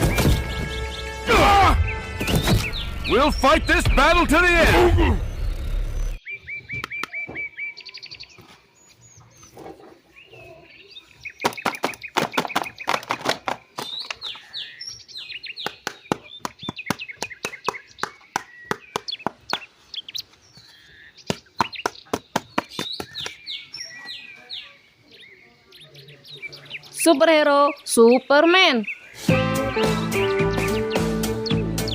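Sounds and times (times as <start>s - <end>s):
birds chirping and singing: 0.0s - 31.9s.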